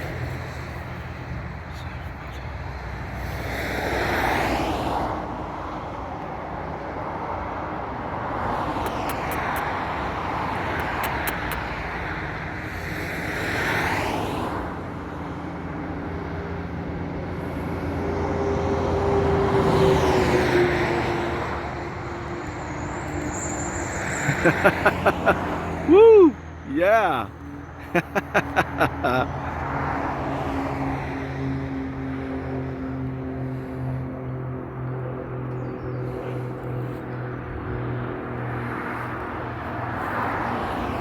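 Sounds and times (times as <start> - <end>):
low traffic rumble: 0.0 - 41.0
vehicles passing: 0.0 - 41.0.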